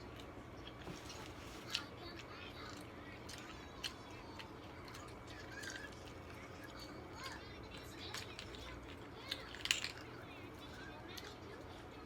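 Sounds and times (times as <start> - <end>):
chewing and wet mouth noises: 0.0 - 12.0.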